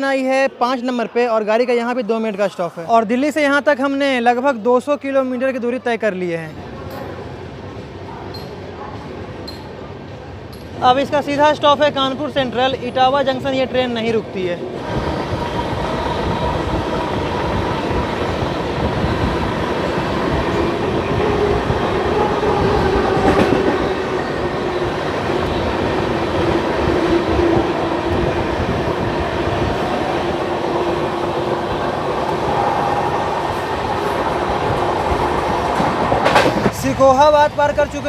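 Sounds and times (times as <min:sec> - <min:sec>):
train wheels rumbling on rails: 0:06.8 - 0:38.0.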